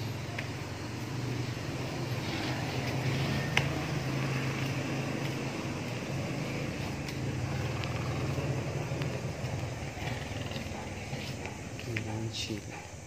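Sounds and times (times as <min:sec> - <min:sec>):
low motor hum: 0:00.0 - 0:11.8.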